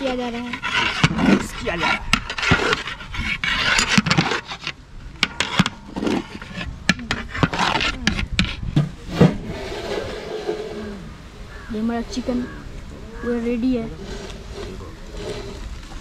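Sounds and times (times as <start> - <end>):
metal ladle scraping rice: 0.0 - 10.9, 14.0 - 16.0.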